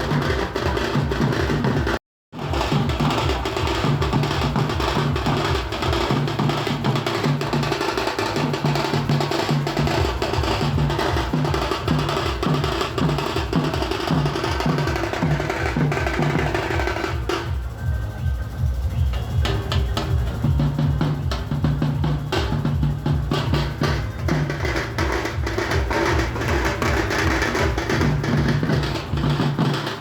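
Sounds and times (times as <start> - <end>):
dhol drums beating fast rhythm: 0.0 - 30.0.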